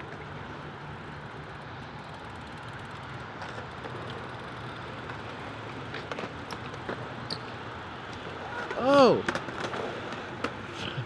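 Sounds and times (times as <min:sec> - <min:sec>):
bike tyres rolling on concrete: 0:00.0 - 0:11.0.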